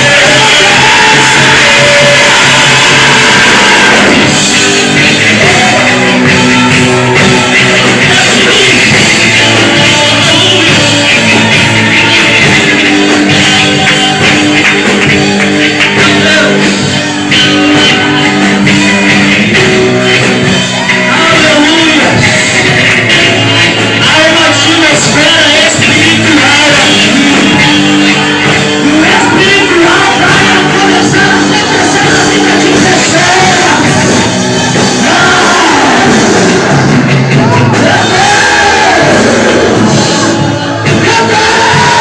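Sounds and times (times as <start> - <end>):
church band worship music: 0.0 - 42.0.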